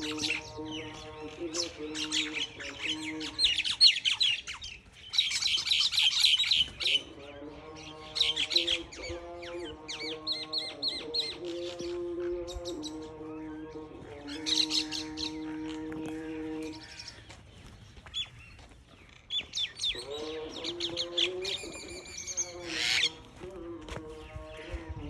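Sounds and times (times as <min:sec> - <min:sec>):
birds squabbling: 0:00.0 - 0:25.0.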